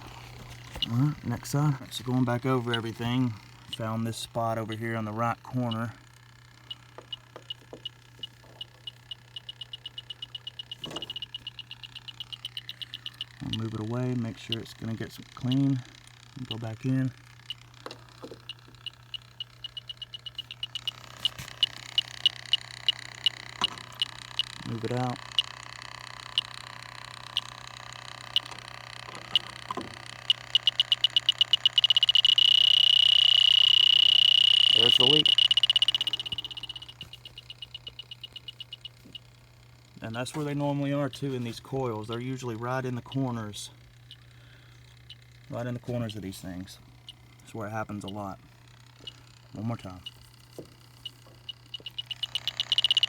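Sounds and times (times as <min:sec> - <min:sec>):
leak detector ticking: 0:00.0 - 0:53.0
steady low hum: 0:00.0 - 0:53.0.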